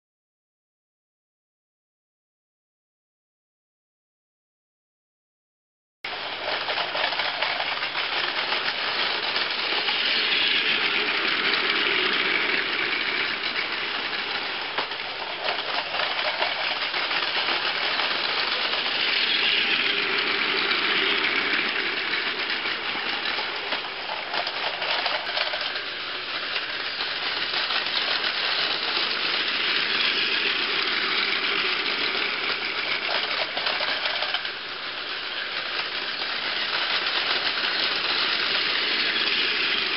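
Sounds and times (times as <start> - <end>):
toy train motor whirring: 6.1 - 39.9
toy train wheels rattling: 6.1 - 39.9.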